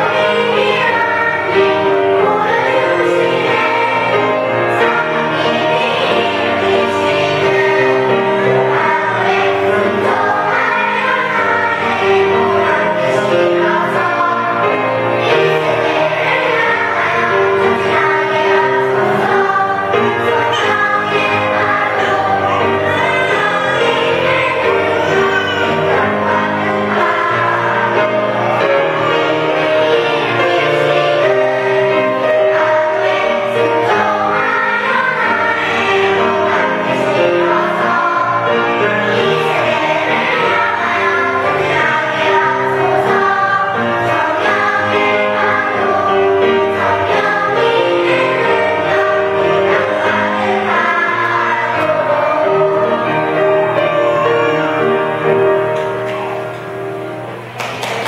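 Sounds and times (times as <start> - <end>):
choir singing a hymn: 0.0 - 58.0
instrumental accompaniment: 0.0 - 58.0.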